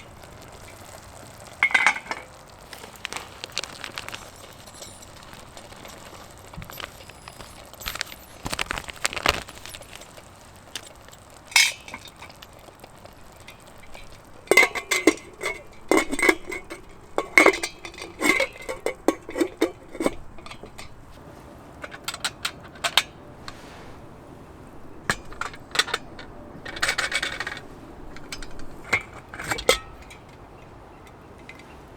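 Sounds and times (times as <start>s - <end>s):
metal cookware clinking: 0.0s - 21.1s, 24.5s - 31.7s.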